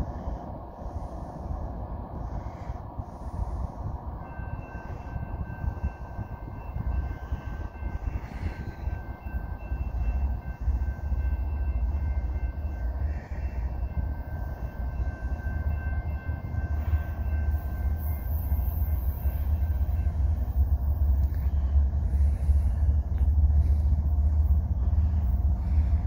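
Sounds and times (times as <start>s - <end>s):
diesel train rumble: 0.0s - 26.0s.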